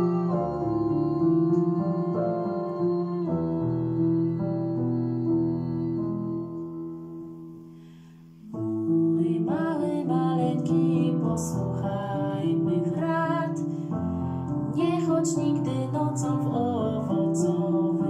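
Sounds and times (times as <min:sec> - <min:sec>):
woman singing: 0:00.0 - 0:07.3, 0:08.4 - 0:13.7, 0:14.6 - 0:18.0
piano playing slow chords: 0:00.0 - 0:18.0.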